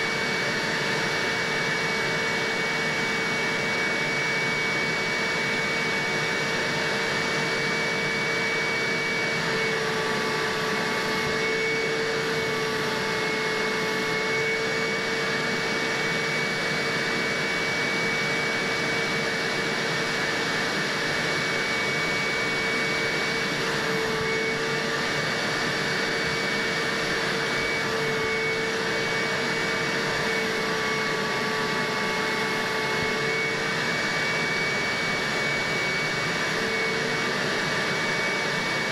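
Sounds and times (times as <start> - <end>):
carpet shampooer motor whine: 0.0 - 38.9.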